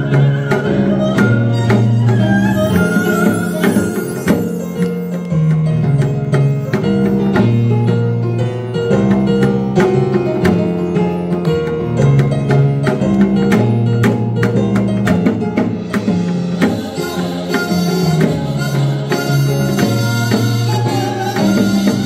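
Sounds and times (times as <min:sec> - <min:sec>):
drum strokes: 0:00.0 - 0:22.0
traditional ensemble music: 0:00.0 - 0:22.0.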